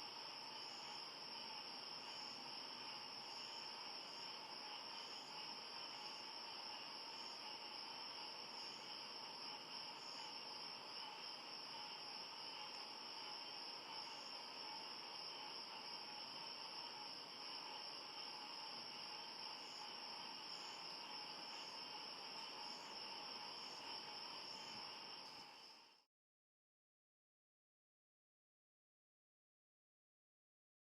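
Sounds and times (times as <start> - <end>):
insects and frogs trilling: 0.0 - 26.0.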